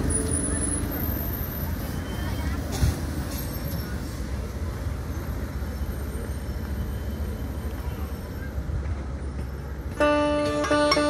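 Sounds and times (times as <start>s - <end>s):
road train driving away: 0.0s - 11.0s.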